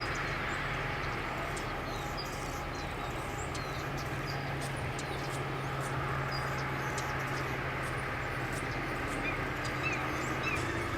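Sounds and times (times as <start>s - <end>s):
steady low hum: 0.0s - 10.9s
hummingbird chips and squeaks: 1.5s - 10.9s.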